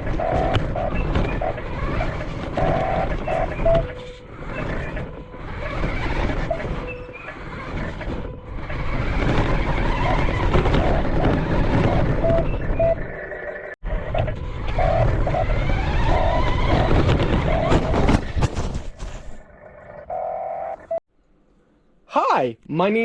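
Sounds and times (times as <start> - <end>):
rc truck motor and tyres: 0.0 - 21.0.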